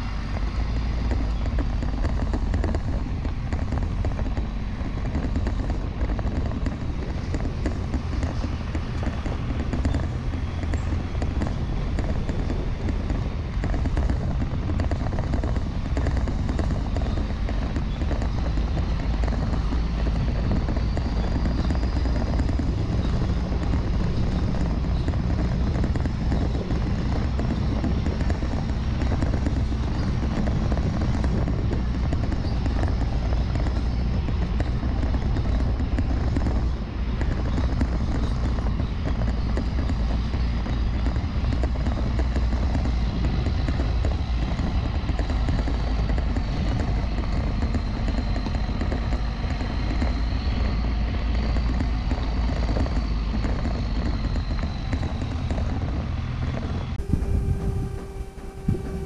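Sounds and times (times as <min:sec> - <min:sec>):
diesel truck engine droning: 0:00.0 - 0:59.0
tyre and road noise: 0:00.0 - 0:59.0
faint high whine: 0:05.0 - 0:59.0.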